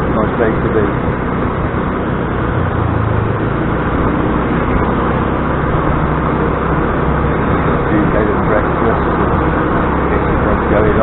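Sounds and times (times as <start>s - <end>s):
motor scooter engine running: 0.0s - 11.0s
road and traffic noise: 0.0s - 11.0s.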